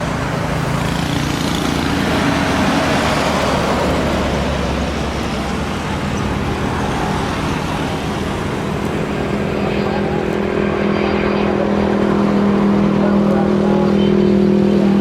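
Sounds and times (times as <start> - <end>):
loud engine roar: 0.0 - 15.0.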